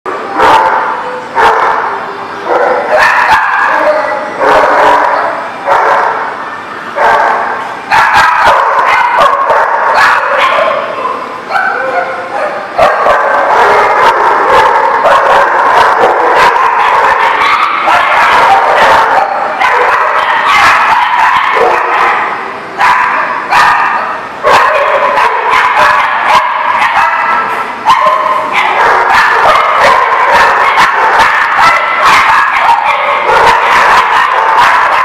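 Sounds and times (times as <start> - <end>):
dogs barking and yipping: 0.1 - 35.0.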